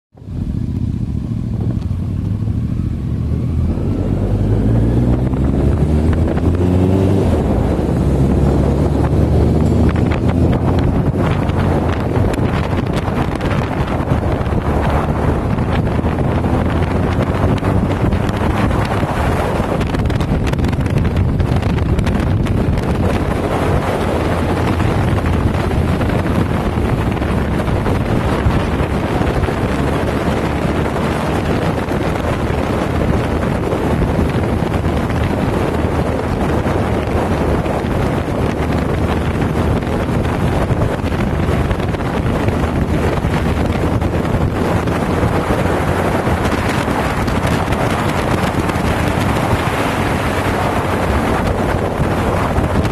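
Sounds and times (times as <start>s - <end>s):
motorcycle engine running: 0.2s - 52.9s
wind buffeting microphone: 0.2s - 52.9s.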